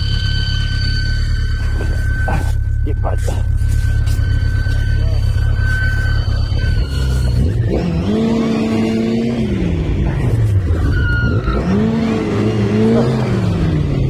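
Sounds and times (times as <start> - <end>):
low engine rumble: 0.0 - 14.0
vehicle engine revving: 0.0 - 14.0.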